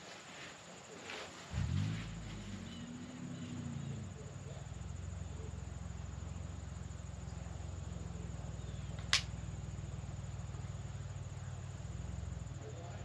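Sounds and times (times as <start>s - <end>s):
steady low hum: 1.5s - 13.0s.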